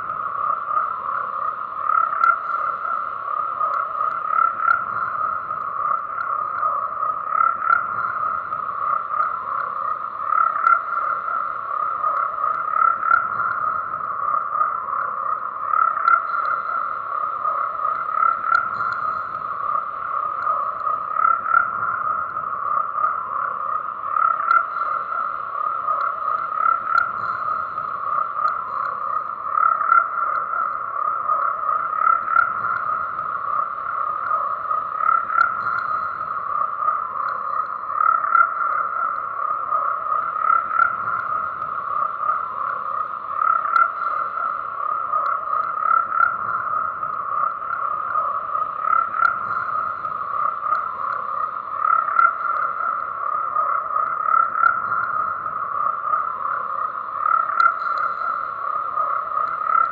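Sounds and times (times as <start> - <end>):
chorus of frogs croaking: 0.0 - 59.9.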